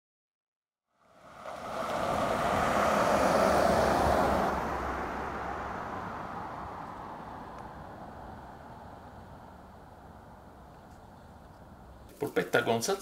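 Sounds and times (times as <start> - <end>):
car driving past: 0.9 - 12.1.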